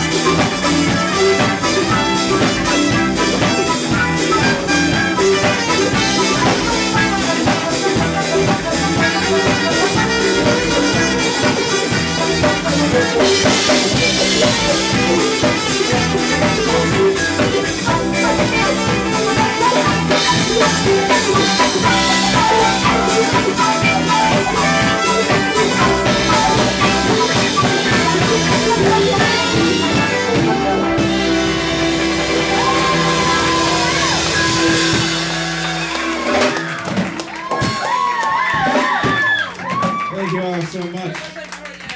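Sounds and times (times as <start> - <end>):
live band with drums and horns: 0.0 - 41.9.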